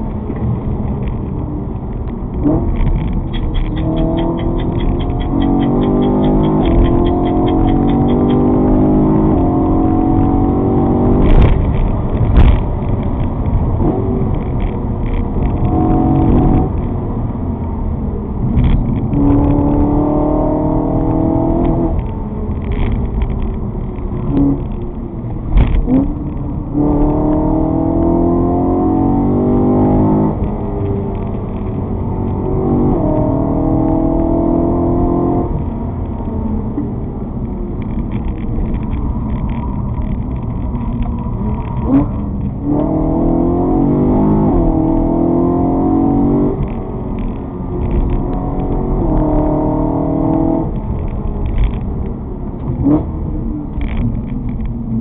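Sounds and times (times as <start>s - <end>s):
vehicle engine accelerating through gears: 0.0s - 55.0s.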